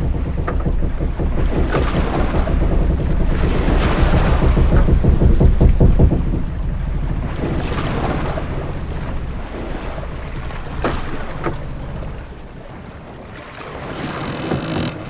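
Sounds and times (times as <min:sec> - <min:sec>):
sharp knocks: 0:00.0 - 0:12.4, 0:13.6 - 0:15.0
low rumble: 0:00.0 - 0:13.1
waves washing: 0:00.0 - 0:15.0
wind: 0:00.0 - 0:15.0.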